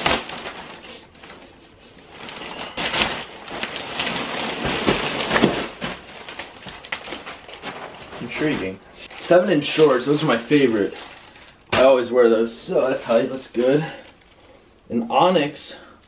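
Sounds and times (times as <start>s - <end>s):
plastic bag crinkling and rustling: 0.0s - 14.6s.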